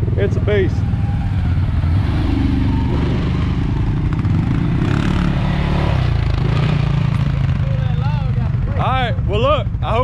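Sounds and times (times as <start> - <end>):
atv engines running low speed: 0.0 - 10.0.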